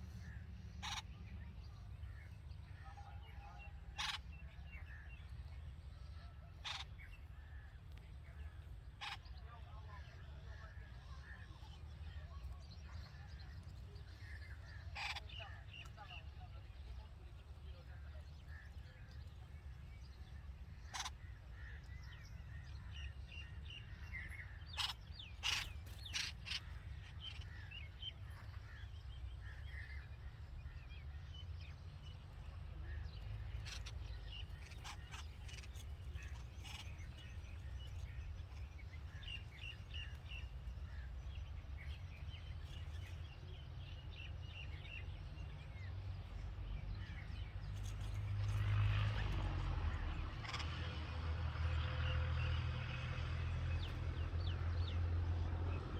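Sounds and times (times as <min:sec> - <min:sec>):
bulbuls chirping: 0:00.0 - 0:51.3.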